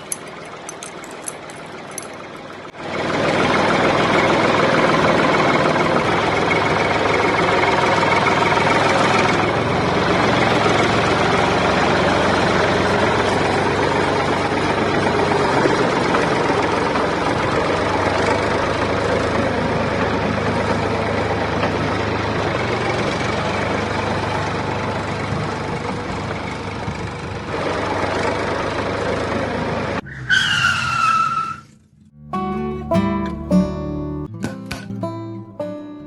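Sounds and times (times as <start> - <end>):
machine engine running: 0.0 - 30.0.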